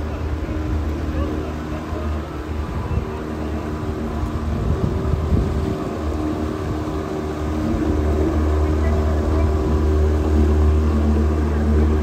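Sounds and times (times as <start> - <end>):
outboard motor humming: 0.0 - 12.0
water churning: 0.0 - 12.0.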